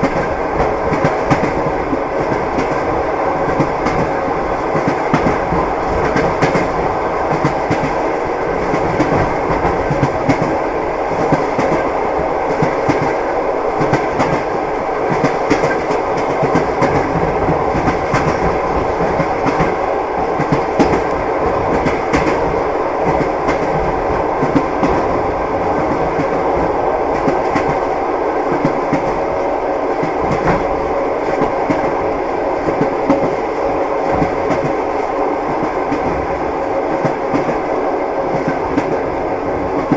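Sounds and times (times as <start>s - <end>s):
train wheels clicking on rail joints: 0.0s - 39.9s.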